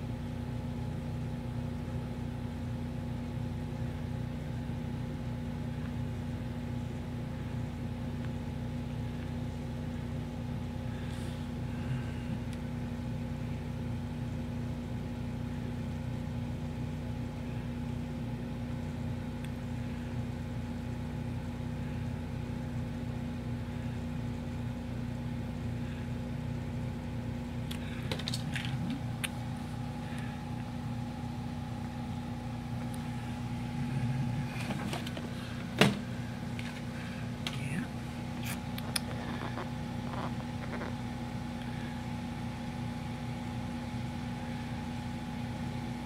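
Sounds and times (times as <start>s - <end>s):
low hum with steady tones: 0.0s - 46.0s.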